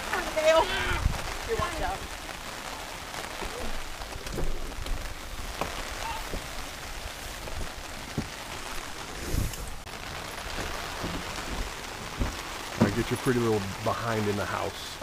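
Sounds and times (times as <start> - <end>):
rain pattering on an umbrella: 0.0 - 15.0.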